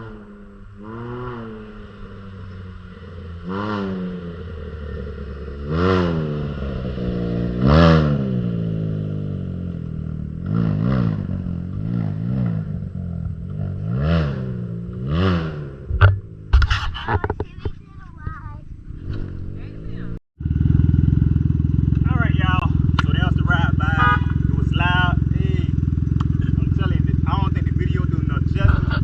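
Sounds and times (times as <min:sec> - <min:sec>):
motorcycle engine revving: 0:00.0 - 0:17.6, 0:18.8 - 0:29.0.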